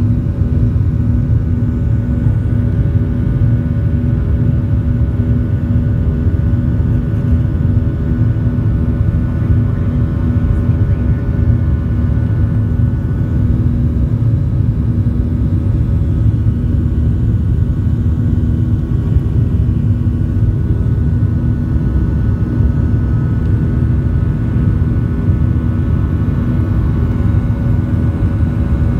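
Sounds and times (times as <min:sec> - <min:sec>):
jet engine rumble in cabin: 0:00.0 - 0:28.9.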